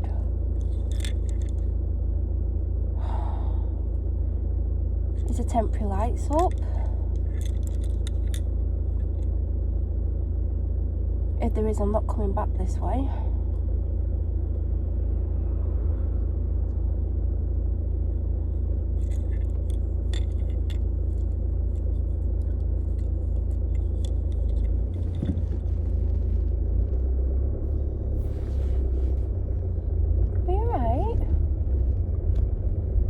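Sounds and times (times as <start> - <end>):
car engine rumble inside cabin: 0.0 - 33.0.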